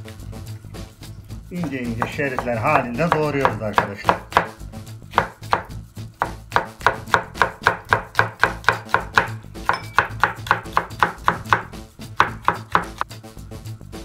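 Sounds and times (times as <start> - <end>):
knife chopping on wooden board: 1.6 - 13.0.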